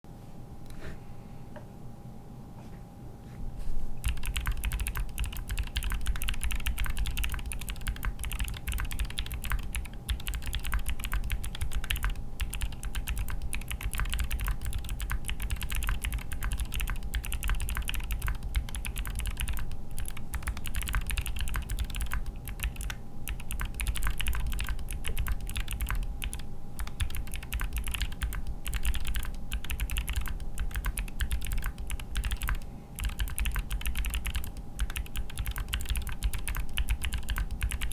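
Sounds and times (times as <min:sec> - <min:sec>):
fast typing on mechanical keyboard: 0:04.0 - 0:37.9.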